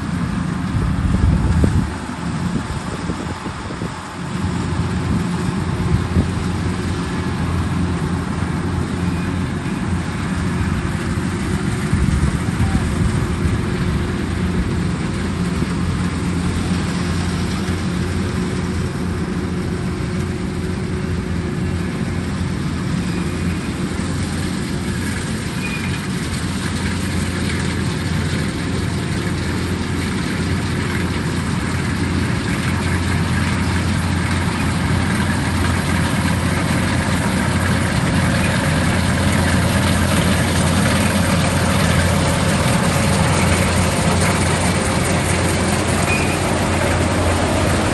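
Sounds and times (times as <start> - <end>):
combine harvester engine droning: 0.0 - 47.9.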